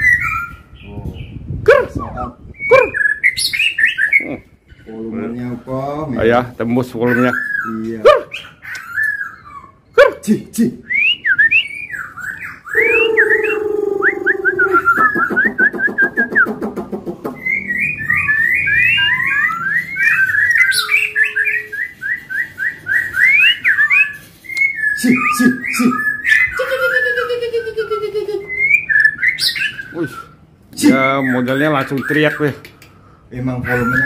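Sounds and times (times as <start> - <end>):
songbird whistling and trilling: 0.0 - 4.4, 7.1 - 10.0, 10.9 - 16.5, 17.4 - 32.6, 33.6 - 34.0.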